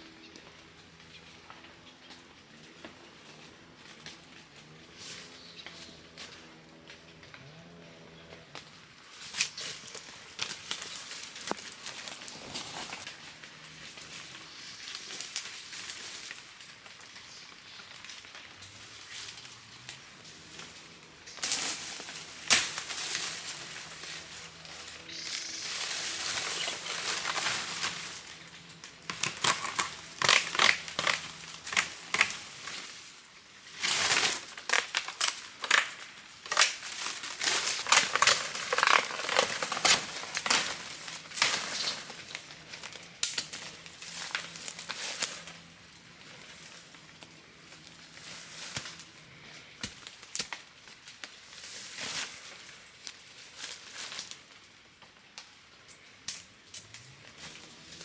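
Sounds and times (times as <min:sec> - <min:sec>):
crinkling and crackling: 0:00.2 - 0:58.0.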